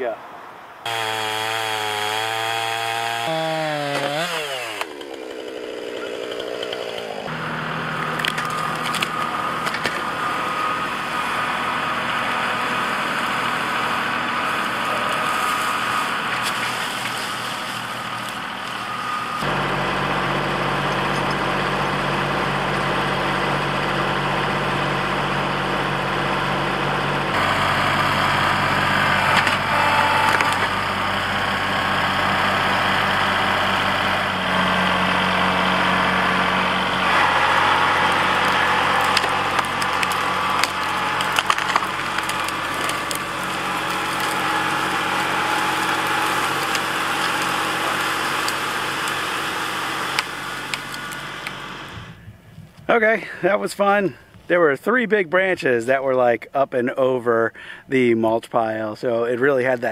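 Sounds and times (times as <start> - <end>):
chainsaw cutting through tree trunk: 0.8 - 52.1
tractor engine running under load: 0.9 - 52.9.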